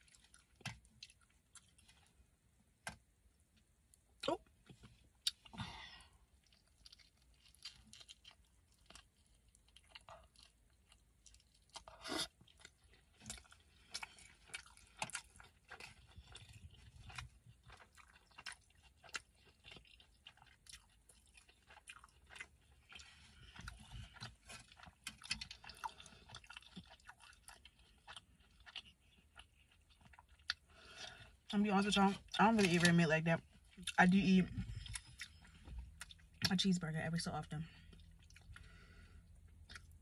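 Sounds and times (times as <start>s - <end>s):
close-up chewing: 0.0s - 3.0s, 3.9s - 36.6s, 37.4s - 40.0s.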